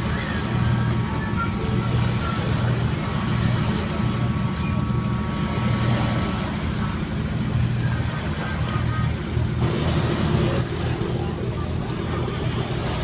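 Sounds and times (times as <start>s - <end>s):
ship diesel engines rumbling: 0.0s - 13.0s.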